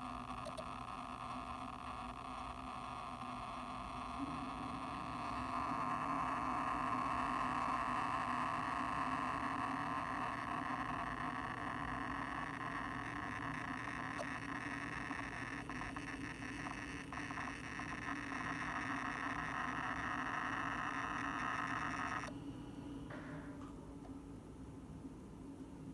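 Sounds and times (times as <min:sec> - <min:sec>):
faint hard drive ticks: 0:00.0 - 0:22.4
hard drive drone and whirring: 0:00.0 - 0:23.2.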